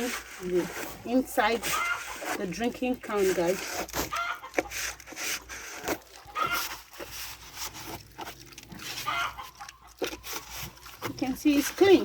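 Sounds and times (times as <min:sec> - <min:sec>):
rustling: 0:00.0 - 0:12.0
pigs calling: 0:01.4 - 0:12.0.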